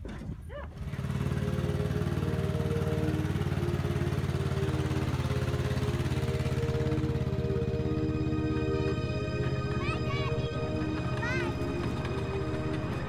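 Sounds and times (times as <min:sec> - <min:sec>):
droning bass: 0:00.9 - 0:13.0
slow melody of held notes: 0:01.0 - 0:13.0.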